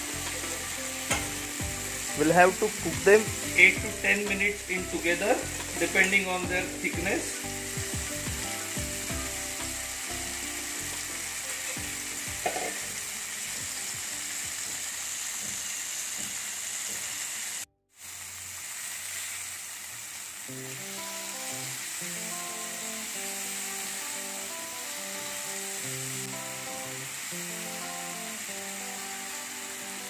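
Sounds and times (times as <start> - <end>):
soft background music: 0.0 - 15.7, 20.6 - 30.0
fish sizzling in oil: 0.0 - 30.0.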